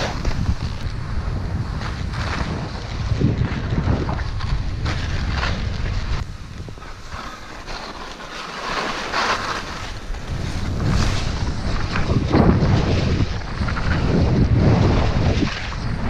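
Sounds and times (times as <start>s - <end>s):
skis swooshing through snow: 0.0s - 16.0s
wind rushing over microphone: 0.0s - 16.0s.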